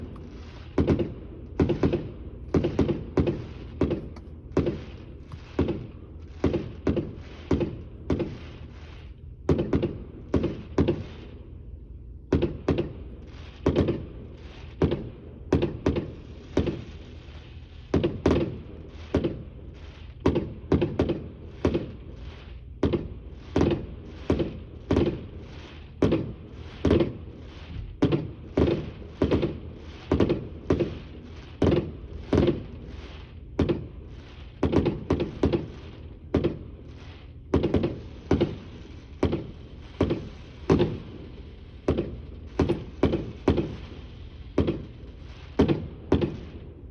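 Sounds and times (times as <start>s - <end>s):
firework shells bursting: 0.0s - 11.1s, 17.9s - 46.9s.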